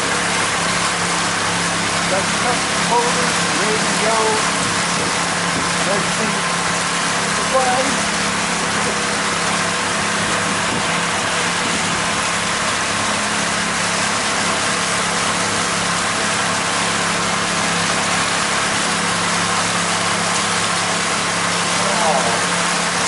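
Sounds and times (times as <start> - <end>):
boat motor humming: 0.0 - 23.0
rush of wind and water: 0.0 - 23.0.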